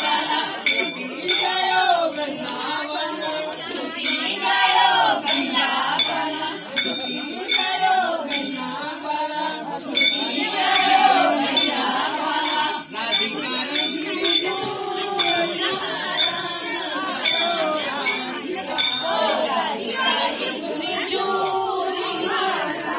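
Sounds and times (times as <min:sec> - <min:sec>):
women singing folk song: 0:00.0 - 0:22.9.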